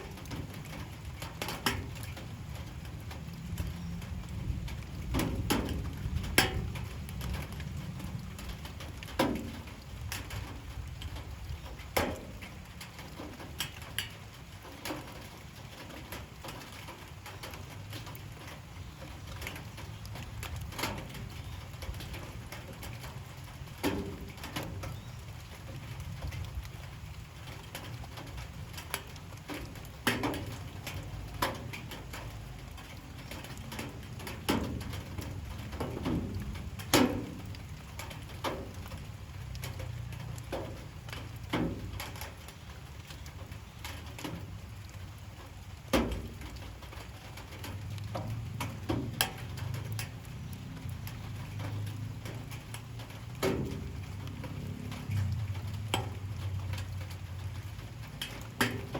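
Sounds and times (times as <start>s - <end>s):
heavy drips knocking: 0.0s - 58.9s
light rain pattering: 0.0s - 58.9s.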